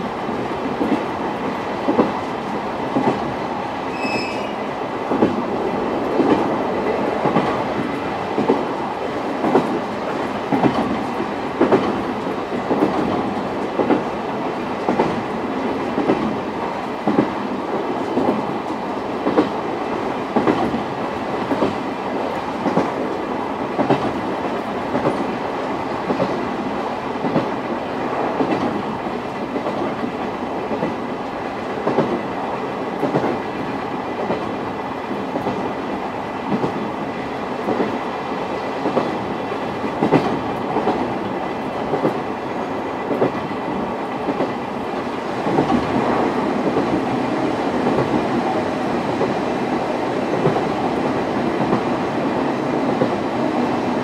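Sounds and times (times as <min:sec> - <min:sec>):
clickety-clack over rail joints: 0:00.0 - 0:54.0
train wheels rumbling on rails: 0:00.0 - 0:54.0.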